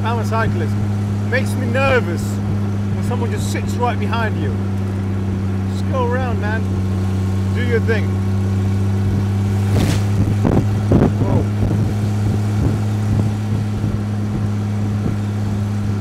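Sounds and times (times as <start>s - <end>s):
car engine cruising: 0.0s - 16.0s.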